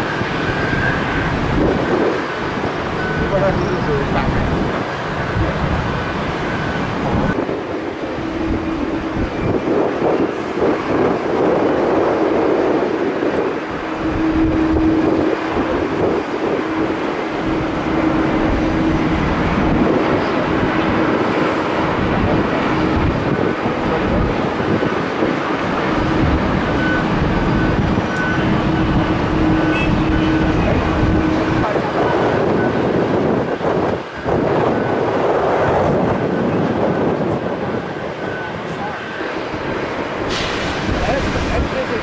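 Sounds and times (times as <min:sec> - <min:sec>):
jet engines rushing: 0:00.0 - 0:42.0.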